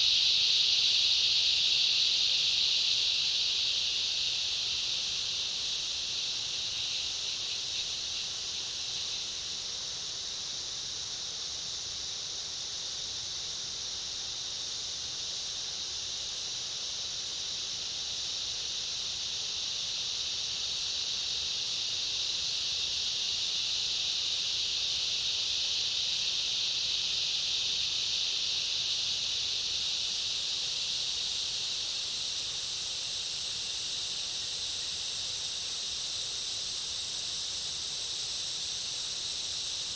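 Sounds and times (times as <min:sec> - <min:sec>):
cicada chorus buzzing: 0:00.0 - 0:39.9.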